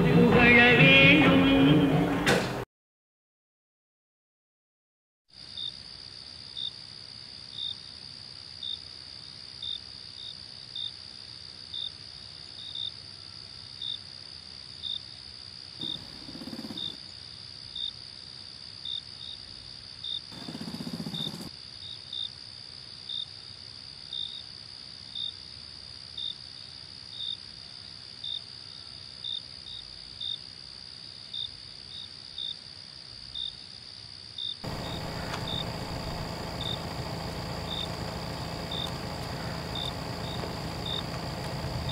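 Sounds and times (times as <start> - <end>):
crickets chirping: 5.4 - 41.9.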